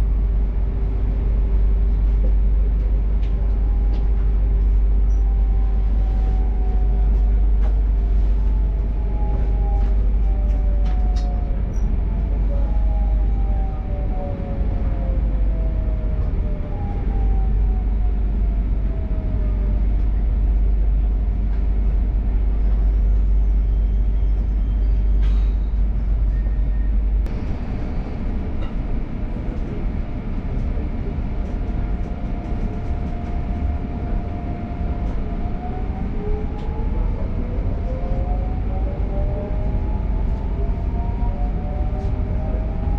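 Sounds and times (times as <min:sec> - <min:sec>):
train running rumble: 0:00.0 - 0:42.9.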